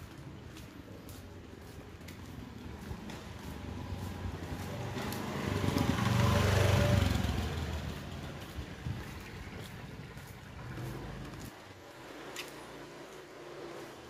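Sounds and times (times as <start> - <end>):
scooter engine passing by: 2.2 - 14.0.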